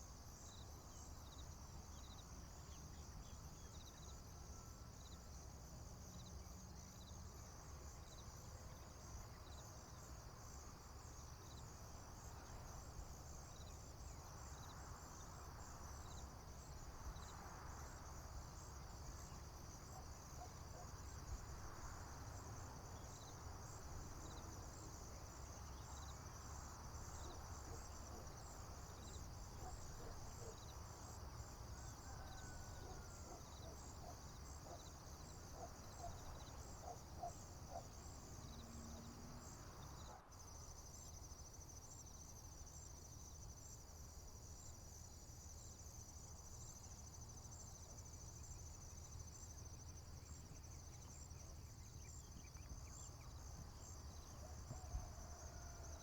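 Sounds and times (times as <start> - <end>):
crickets and insects trilling: 0.0 - 56.0.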